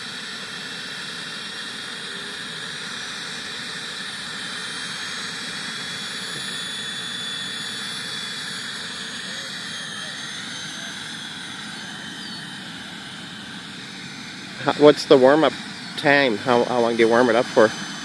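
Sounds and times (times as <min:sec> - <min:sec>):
small jet turbine engine whine: 0:00.0 - 0:18.0.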